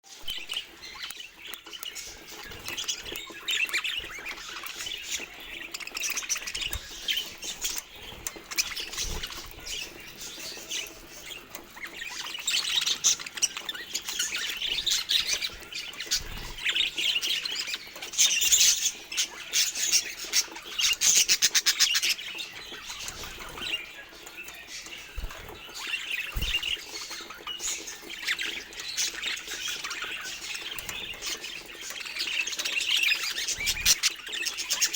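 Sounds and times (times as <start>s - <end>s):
budgerigars chirping: 0.1s - 34.9s.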